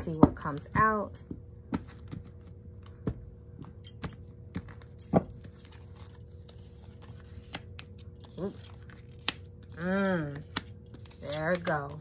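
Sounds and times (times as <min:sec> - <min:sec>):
cards tapping and clicking: 0:00.1 - 0:12.0.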